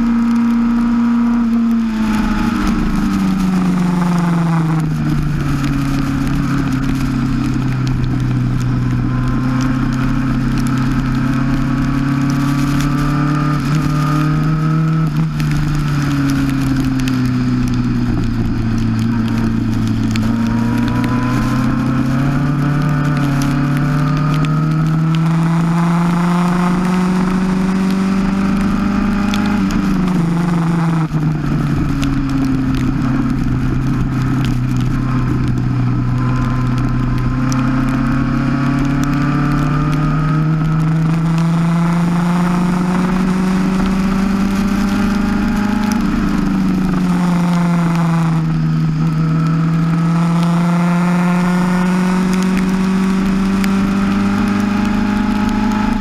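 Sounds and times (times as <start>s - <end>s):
race car engine running hard: 0.0s - 56.0s
steady rushing noise: 0.0s - 56.0s.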